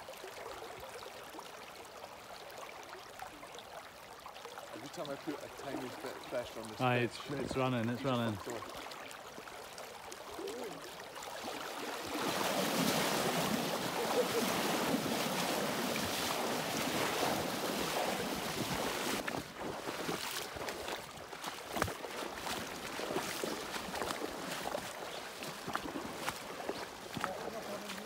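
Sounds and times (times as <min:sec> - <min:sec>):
wading through flowing river: 0:00.0 - 0:28.0.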